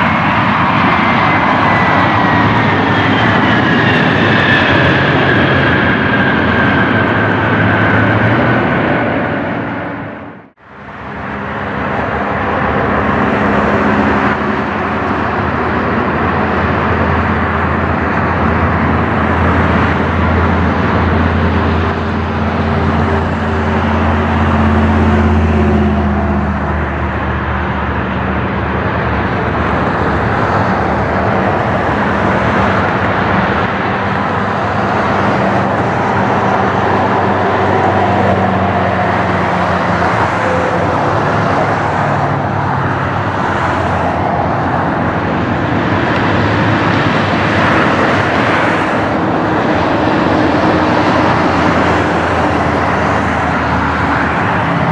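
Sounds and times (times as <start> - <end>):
jet engines roaring: 0.0 - 54.9
low engine hum: 0.0 - 54.9.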